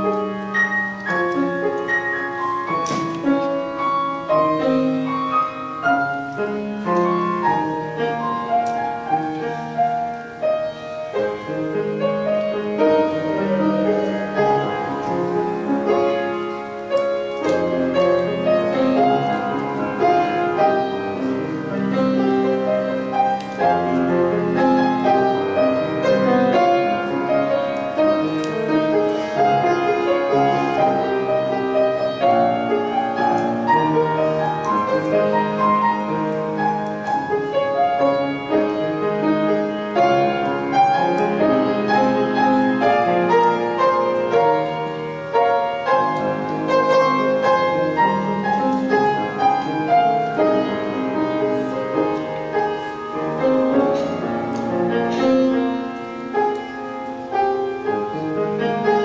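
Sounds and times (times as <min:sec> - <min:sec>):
piano-led music: 0:00.0 - 0:59.0.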